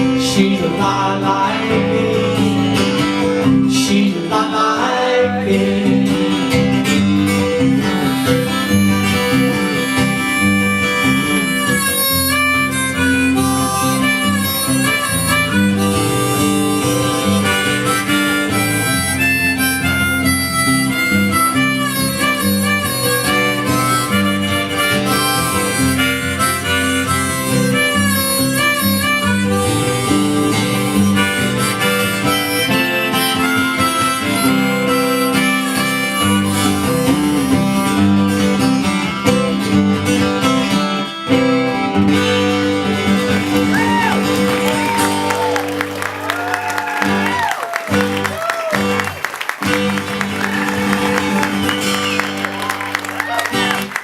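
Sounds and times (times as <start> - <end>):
strummed acoustic guitar: 0.0 - 46.1
harmonica melody: 6.0 - 54.0.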